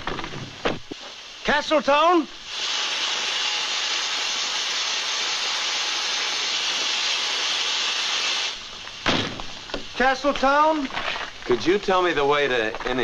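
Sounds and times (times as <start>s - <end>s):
steam venting hiss: 0.0s - 13.0s.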